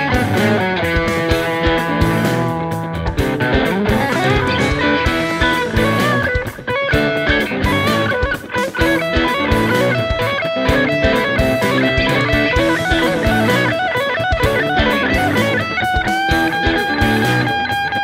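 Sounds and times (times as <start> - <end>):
electric guitar through an amp: 0.0 - 18.0.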